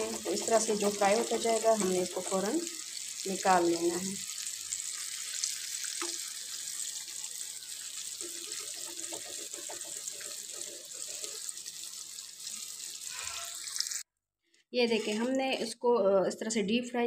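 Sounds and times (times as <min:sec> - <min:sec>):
food deep-frying in oil: 0:00.0 - 0:14.1.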